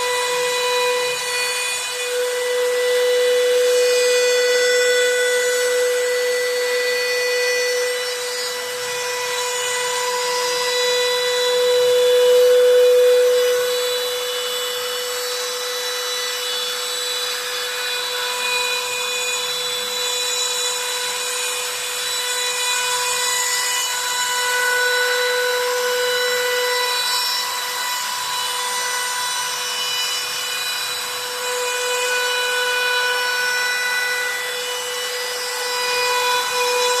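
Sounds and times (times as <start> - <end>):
router spindle high whine: 0.0 - 37.0.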